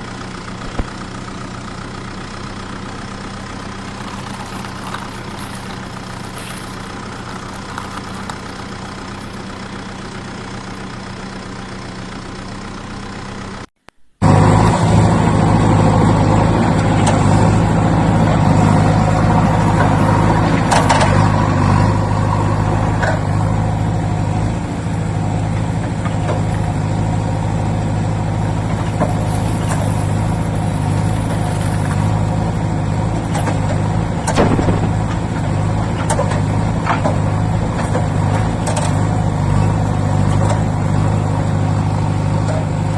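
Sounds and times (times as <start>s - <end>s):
engine idling: 0.0s - 42.9s.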